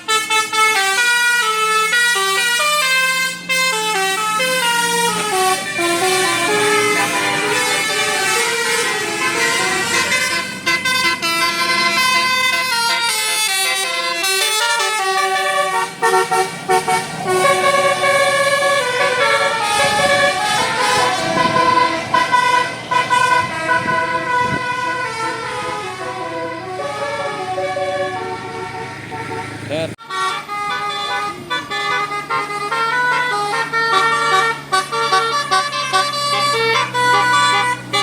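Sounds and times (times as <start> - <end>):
multi-tone air horn melody: 0.0 - 38.0.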